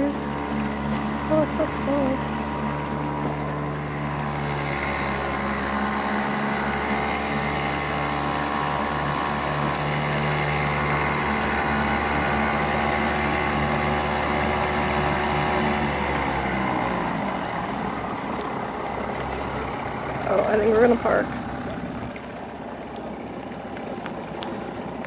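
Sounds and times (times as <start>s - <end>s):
small outboard motor running: 0.0s - 25.0s.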